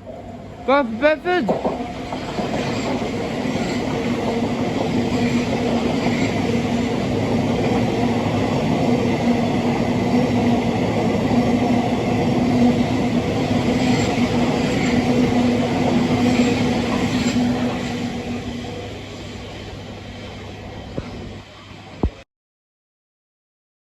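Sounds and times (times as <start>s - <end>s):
train wheel-on-rail rumble: 0.0s - 22.2s.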